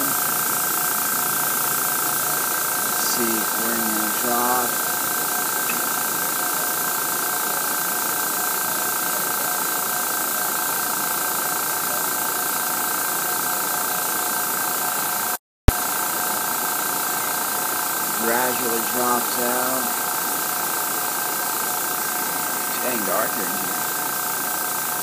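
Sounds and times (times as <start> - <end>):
air hissing from outlet: 0.0 - 25.0
compressor motor whine: 0.0 - 25.0.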